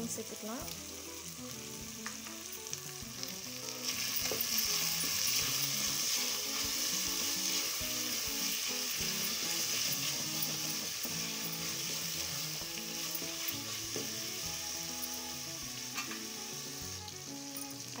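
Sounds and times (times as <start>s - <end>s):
onion and tomato sizzling in oil: 0.0s - 18.0s.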